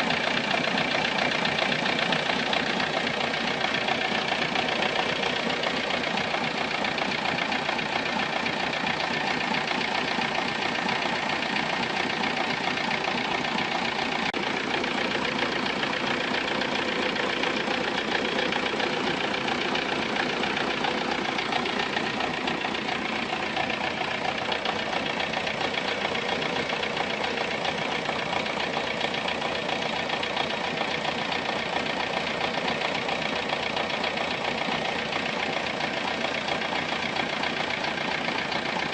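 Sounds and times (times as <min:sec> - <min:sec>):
car engine idling: 0:00.0 - 0:38.9
unusual engine noise: 0:00.0 - 0:38.9.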